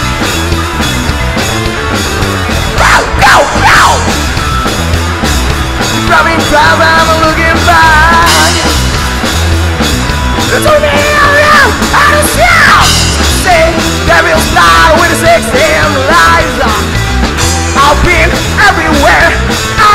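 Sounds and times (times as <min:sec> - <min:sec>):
hard rock band playing: 0:00.0 - 0:19.9.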